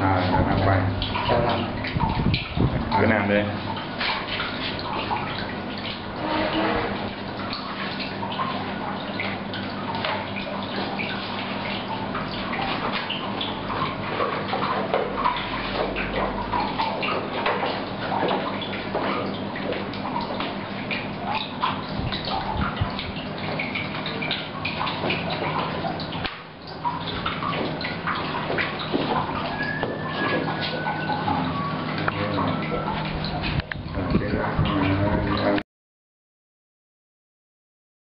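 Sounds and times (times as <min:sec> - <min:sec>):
water running and splashing: 0:00.0 - 0:35.6.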